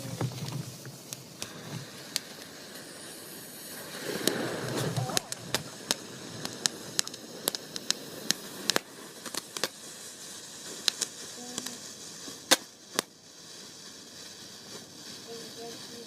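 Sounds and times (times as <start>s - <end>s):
faint hiss: 0.0s - 16.0s
small fireworks crackling: 0.0s - 16.0s.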